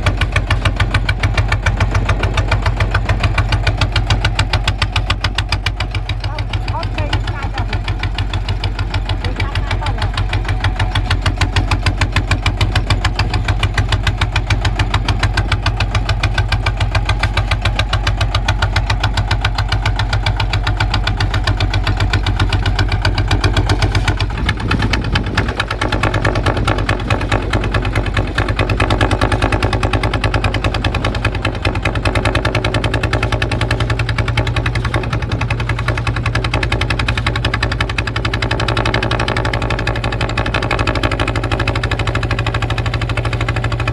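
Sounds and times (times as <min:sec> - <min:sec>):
diesel engine thumping: 0:00.0 - 0:43.9.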